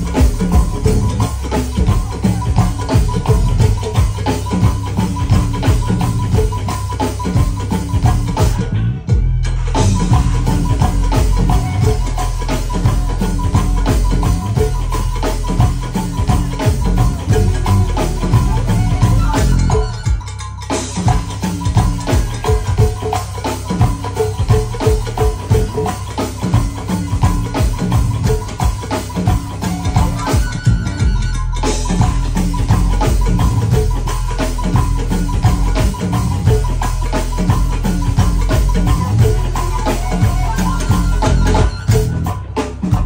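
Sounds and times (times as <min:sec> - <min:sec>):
live band instrumental groove: 0:00.0 - 0:43.0.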